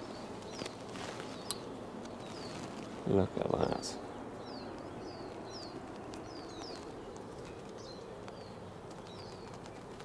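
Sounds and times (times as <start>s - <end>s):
small birds chirping: 0.0s - 10.0s
steady low hiss: 0.0s - 10.0s.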